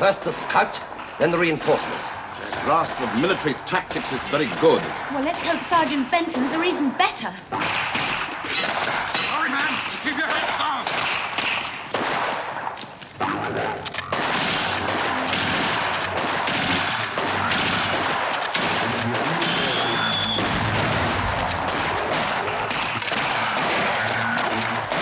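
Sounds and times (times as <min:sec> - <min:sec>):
rapid gunfire volleys: 0:00.0 - 0:13.0, 0:13.9 - 0:25.0.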